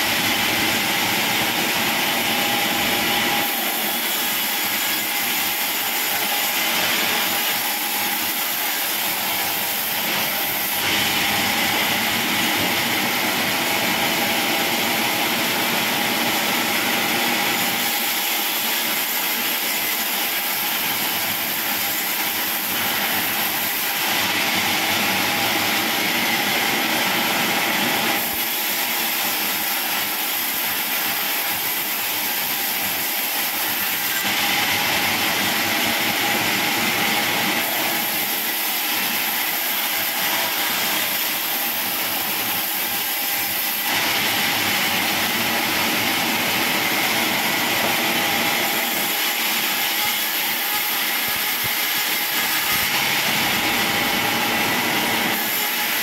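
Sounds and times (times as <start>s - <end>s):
band sawmill cutting log: 0.0s - 56.0s.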